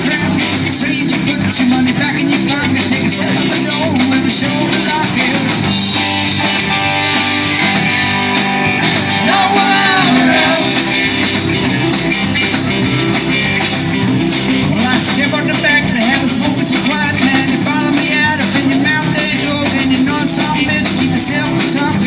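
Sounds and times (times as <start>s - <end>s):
lead guitar line bending: 0.0s - 22.0s
live rock band playing: 0.0s - 22.0s.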